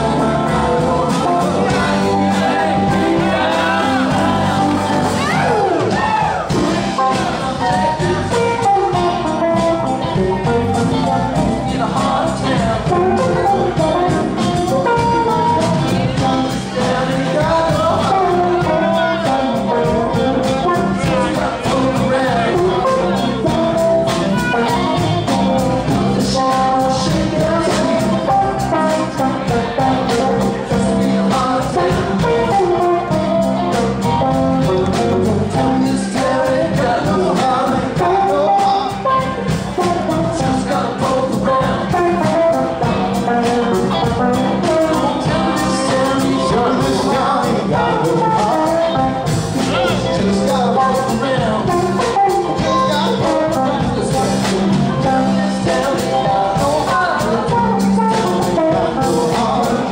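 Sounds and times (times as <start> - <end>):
bass guitar: 0.0 - 59.9
drums: 0.0 - 59.9
electric guitars: 0.0 - 59.9
man singing into microphone: 0.0 - 59.9.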